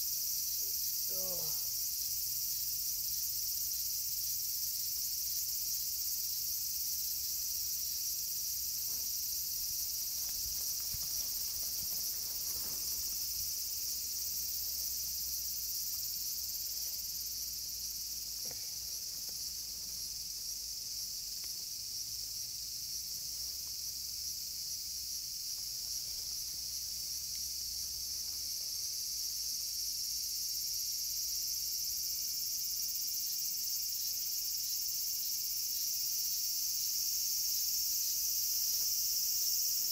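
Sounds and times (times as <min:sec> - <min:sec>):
insects buzzing shrilly: 0:00.0 - 0:39.9.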